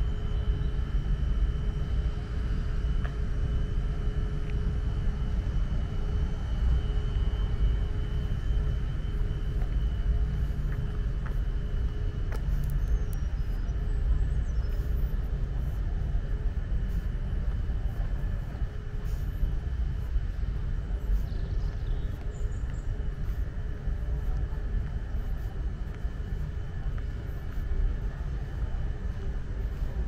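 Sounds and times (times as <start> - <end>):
faint steady hum: 0.0 - 30.0
low outdoor rumble: 0.0 - 30.0.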